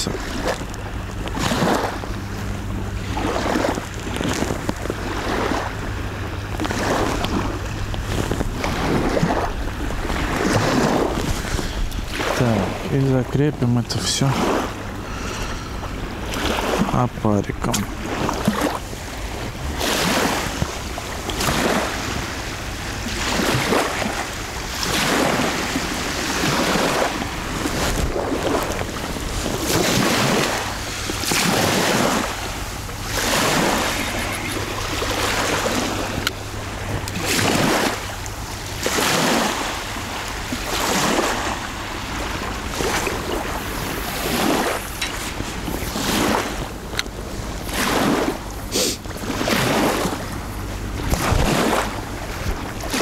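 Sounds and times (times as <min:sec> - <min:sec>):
small waves splashing: 0:00.0 - 0:53.0
wind: 0:00.0 - 0:53.0.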